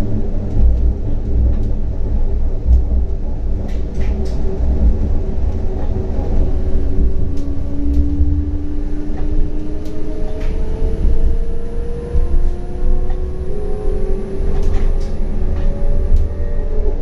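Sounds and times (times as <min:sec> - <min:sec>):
tram electric whine: 0:00.0 - 0:17.0
wheels rumbling on rail: 0:00.0 - 0:17.0.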